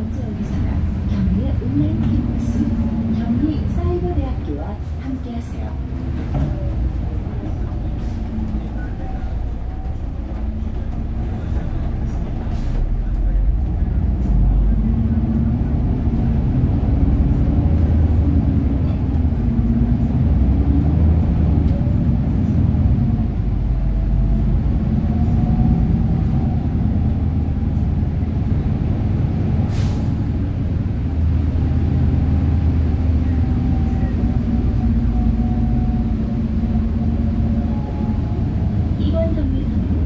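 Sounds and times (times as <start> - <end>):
bus engine and road rumble: 0.0 - 40.0.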